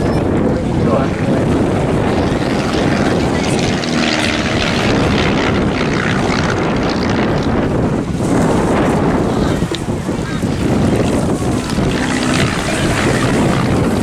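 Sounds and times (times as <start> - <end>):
biplane engine droning: 0.0 - 14.0.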